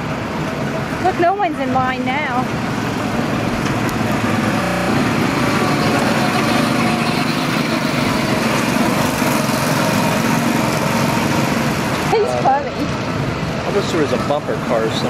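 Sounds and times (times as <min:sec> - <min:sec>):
go-kart engines running: 0:00.0 - 0:15.0.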